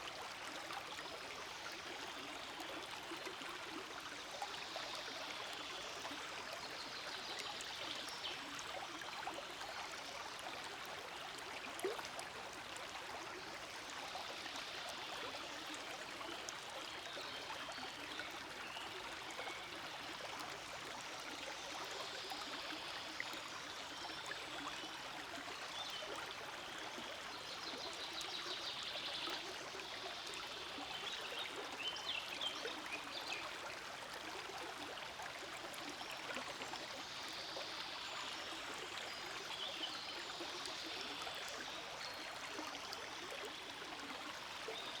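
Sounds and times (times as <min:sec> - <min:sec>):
stream flowing over stones: 0:00.0 - 0:45.0.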